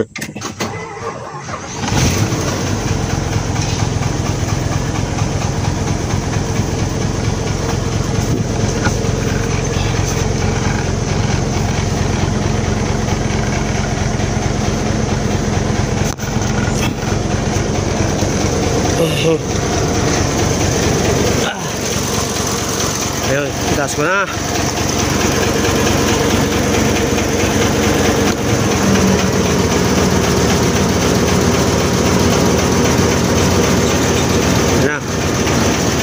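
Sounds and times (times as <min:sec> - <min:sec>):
diesel engine starting and running: 0:00.0 - 0:36.0.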